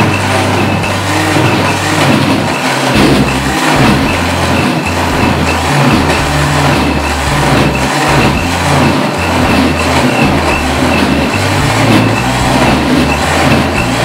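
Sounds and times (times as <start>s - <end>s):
blender grinding leaves: 0.0s - 14.0s.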